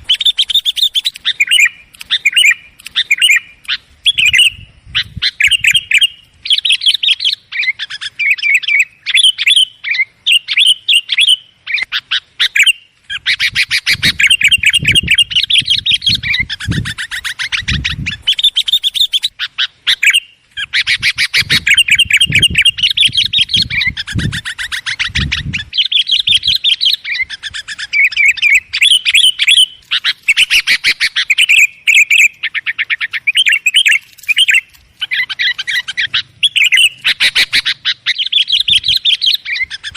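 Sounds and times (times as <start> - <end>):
bulbuls chirping: 0.0 - 39.9
fast trilled bird chatter: 0.0 - 39.9.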